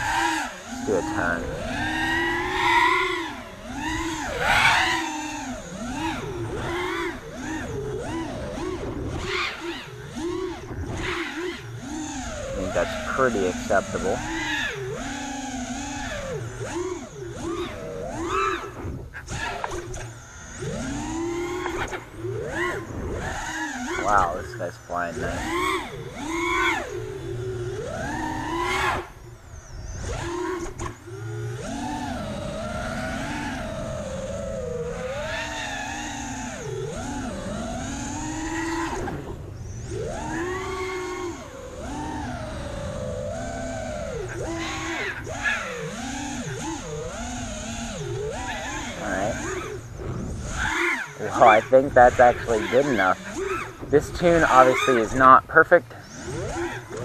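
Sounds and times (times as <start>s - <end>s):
drone motors whining: 0.0s - 57.0s.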